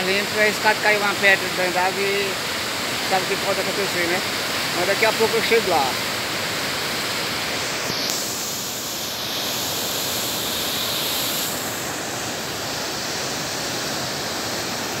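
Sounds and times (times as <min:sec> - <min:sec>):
rushing river: 0:00.0 - 0:15.0.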